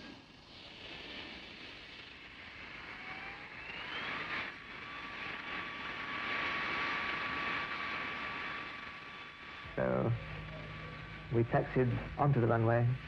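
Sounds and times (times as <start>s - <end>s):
jet engines whining: 1.5s - 13.0s.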